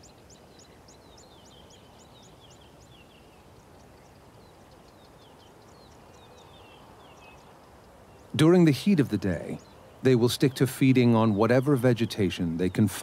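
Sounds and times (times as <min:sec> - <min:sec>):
bird chirping calls: 0:00.0 - 0:13.0
bush ambience: 0:00.0 - 0:13.0.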